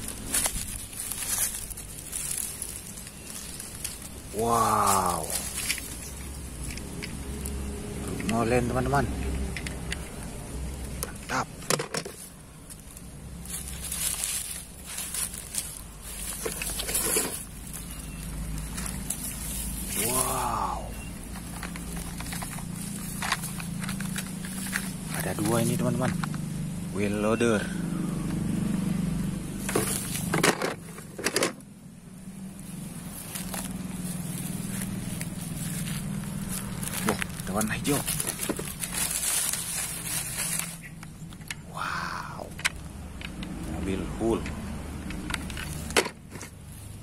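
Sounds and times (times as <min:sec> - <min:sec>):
dry leaves and grass crunching: 0:00.0 - 0:47.0.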